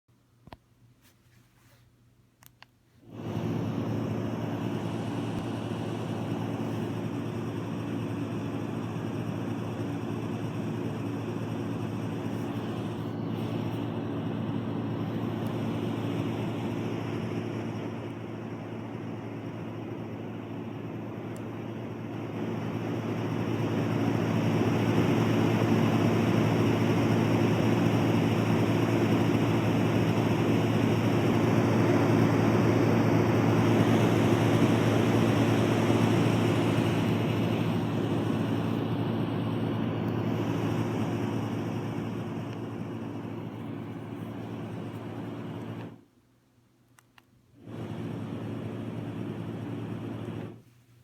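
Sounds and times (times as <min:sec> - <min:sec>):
steady buzz: 0:03.0 - 0:46.0.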